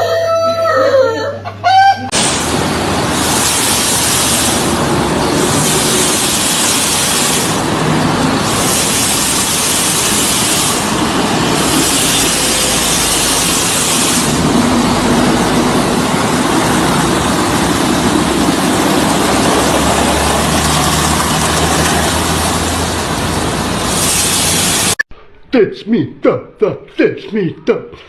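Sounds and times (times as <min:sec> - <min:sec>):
rushing noise: 0:02.1 - 0:25.4
low engine hum: 0:02.2 - 0:25.0.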